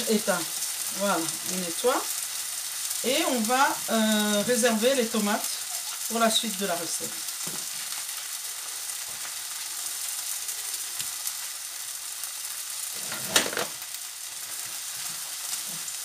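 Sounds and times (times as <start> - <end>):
tomato slices sizzling in a pan: 0.0 - 16.0.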